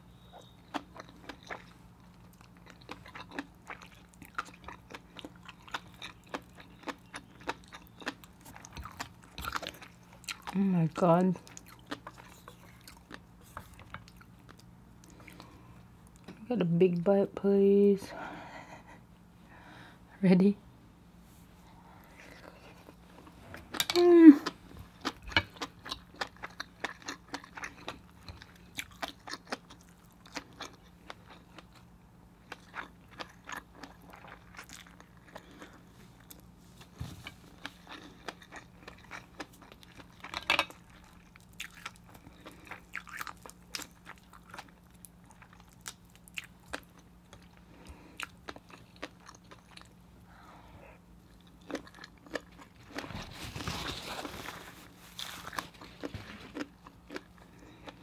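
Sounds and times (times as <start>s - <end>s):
close chewing with wet crunches: 0.2s - 16.4s, 24.4s - 36.6s, 37.2s - 50.1s, 51.1s - 53.4s, 54.7s - 58.0s.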